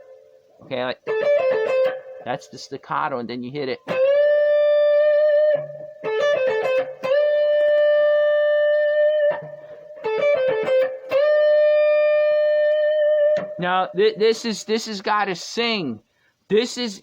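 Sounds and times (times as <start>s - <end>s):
electric guitar blues lick: 0.0s - 14.6s.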